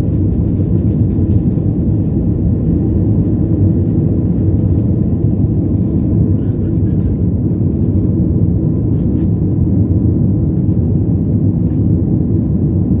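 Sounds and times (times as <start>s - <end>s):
airliner engines rumbling: 0.0s - 13.0s.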